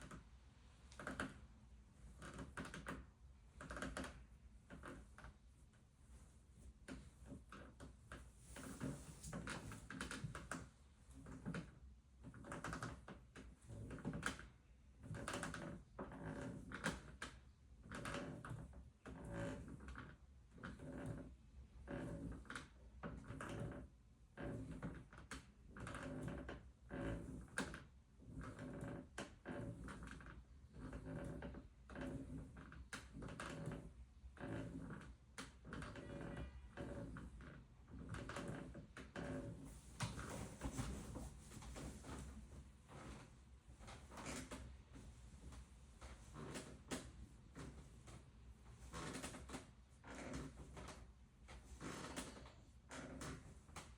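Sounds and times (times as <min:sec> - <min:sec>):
bunk bed creaking and clicking: 0:00.0 - 0:00.2, 0:00.9 - 0:53.9.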